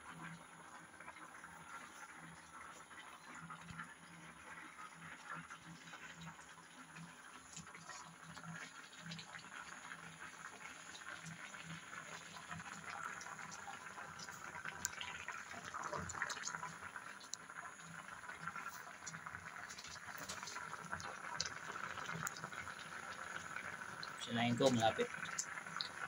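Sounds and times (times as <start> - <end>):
rice boiling and bubbling: 0.0 - 26.0.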